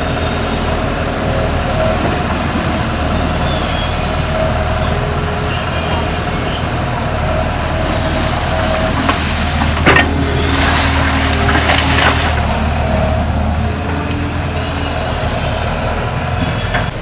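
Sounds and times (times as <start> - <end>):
excavator diesel engine running: 0.0 - 17.0
rushing hiss: 0.0 - 17.0.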